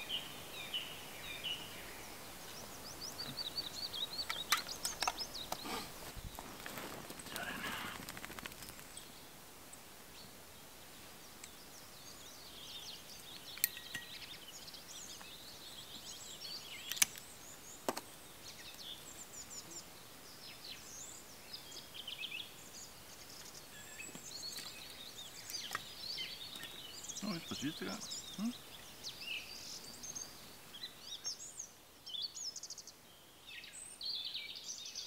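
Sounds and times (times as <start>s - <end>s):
songbirds chirping: 0.0s - 35.0s.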